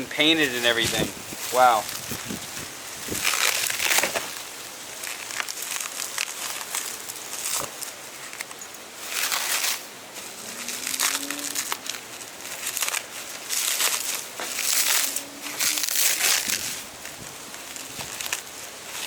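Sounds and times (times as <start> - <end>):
packing material crinkling: 0.0 - 19.0.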